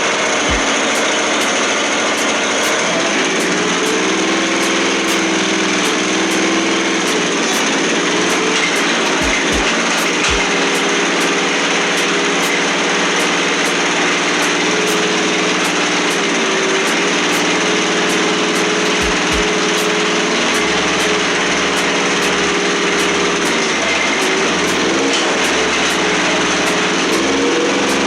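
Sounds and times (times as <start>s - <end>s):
trencher engine running: 0.0s - 28.0s.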